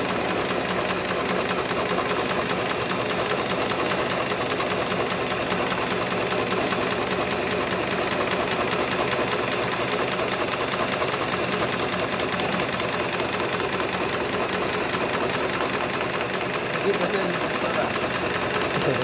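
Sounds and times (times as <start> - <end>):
sewing machine needle patter: 0.0 - 19.0.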